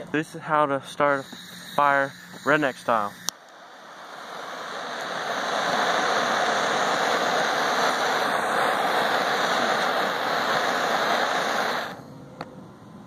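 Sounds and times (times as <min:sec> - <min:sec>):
gas torch flame hissing: 0:01.0 - 0:12.0.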